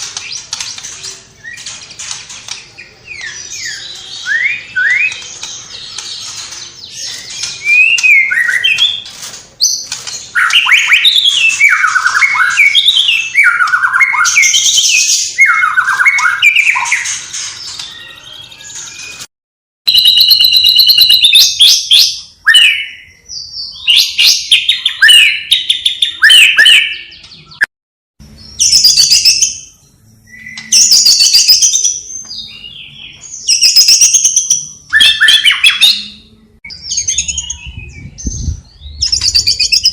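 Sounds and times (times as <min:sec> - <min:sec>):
bird singing: 0:00.0 - 0:19.3, 0:19.9 - 0:39.9.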